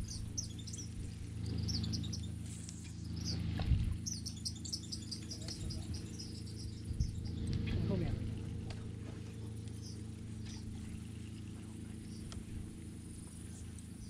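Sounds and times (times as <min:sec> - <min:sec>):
birds chirping: 0:00.0 - 0:12.4
steady low hum: 0:00.0 - 0:14.0.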